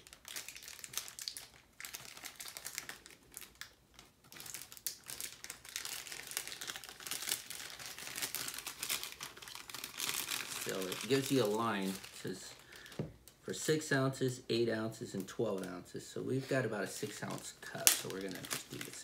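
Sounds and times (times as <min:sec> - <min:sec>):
plastic bag crinkling: 0:00.0 - 0:13.3, 0:16.4 - 0:19.0.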